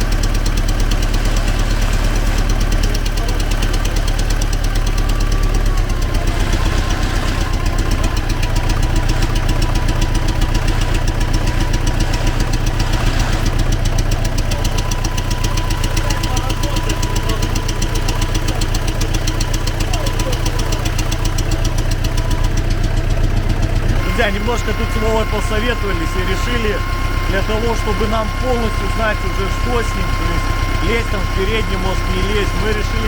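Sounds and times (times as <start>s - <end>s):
diesel tractor engine knocking: 0.0s - 33.0s.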